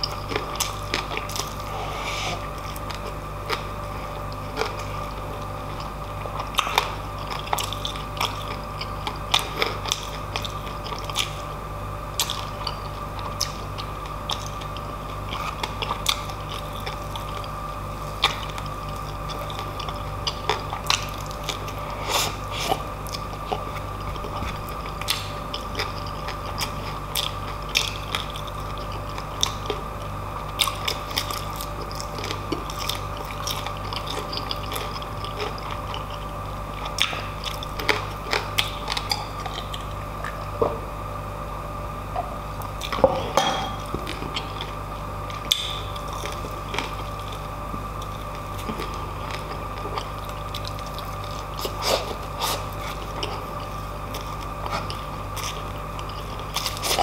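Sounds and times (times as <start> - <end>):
chewing and crunching food: 0.0 - 57.0
steady low hum: 0.0 - 57.0.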